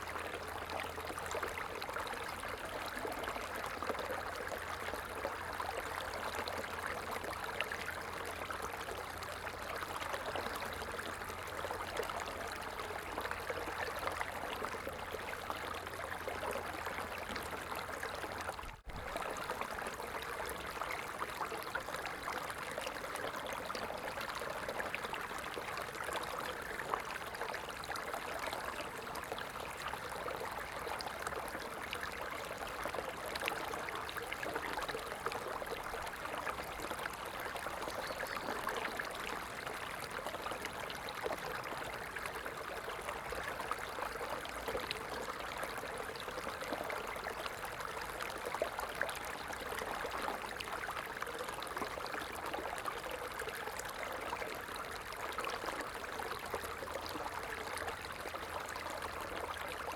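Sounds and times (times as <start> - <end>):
stream flowing and babbling: 0.0 - 59.9.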